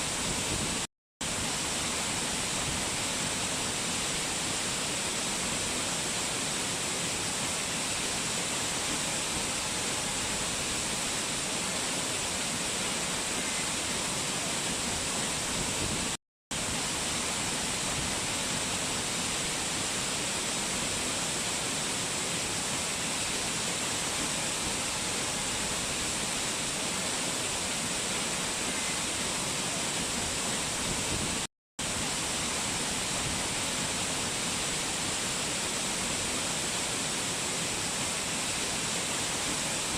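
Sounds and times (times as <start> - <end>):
rushing mountain water: 0.0 - 39.9.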